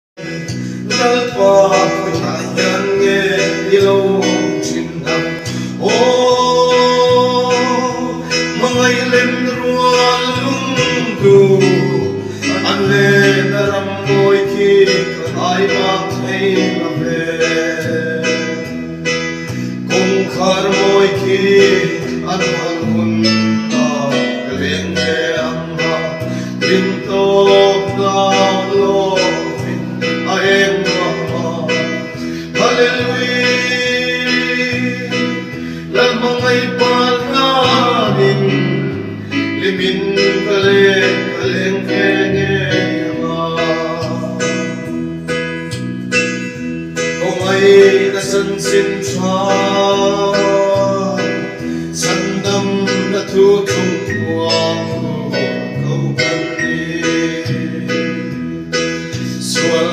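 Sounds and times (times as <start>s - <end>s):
two men singing: 0.2s - 45.4s, 47.0s - 59.9s
electronic keyboard playing: 0.2s - 59.9s.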